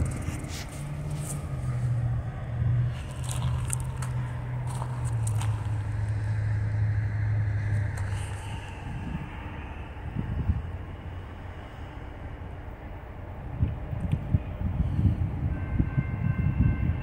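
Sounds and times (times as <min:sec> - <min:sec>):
distant diesel locomotive drone: 0:00.0 - 0:17.0.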